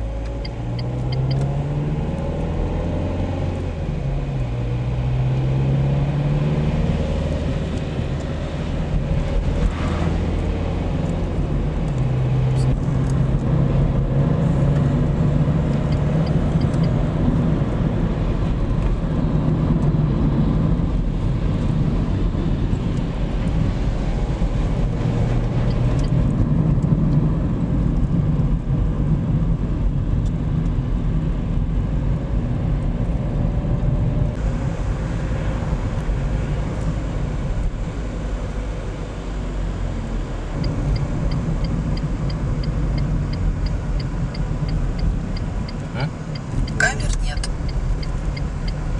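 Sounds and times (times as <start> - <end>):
road and engine rumble: 0.0 - 48.9.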